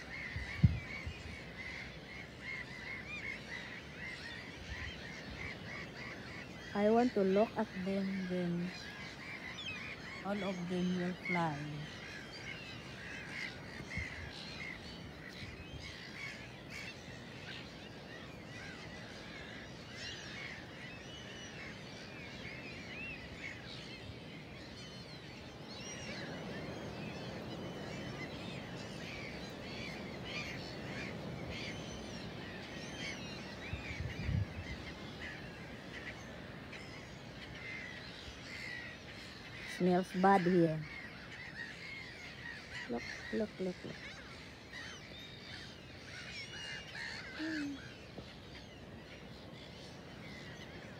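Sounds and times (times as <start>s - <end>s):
gulls calling: 0.0s - 50.9s.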